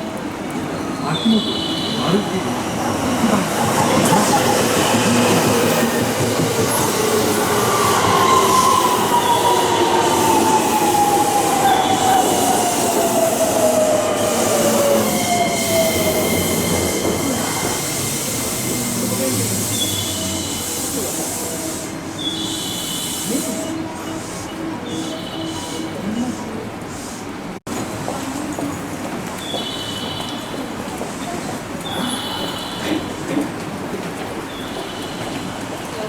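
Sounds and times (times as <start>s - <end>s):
train brakes squealing: 0.7s - 26.6s, 29.4s - 33.5s, 34.4s - 36.0s.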